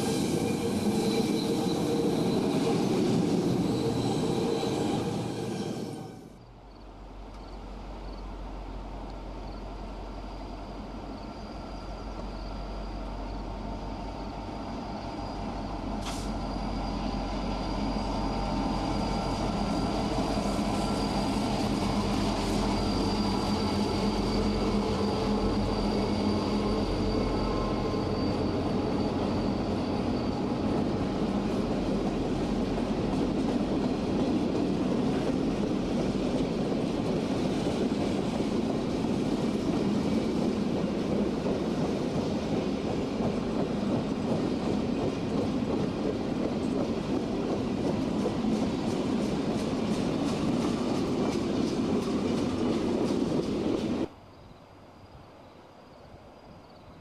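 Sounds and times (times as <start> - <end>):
train wheels rumbling on rail: 0.0 - 54.2
diesel locomotive engines: 0.0 - 57.0.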